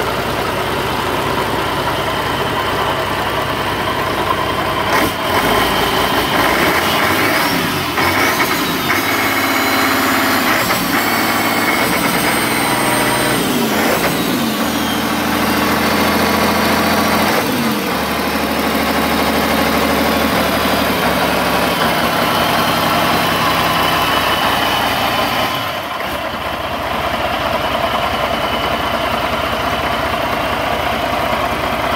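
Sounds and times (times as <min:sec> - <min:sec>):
marine diesel engine running: 0:00.0 - 0:31.9.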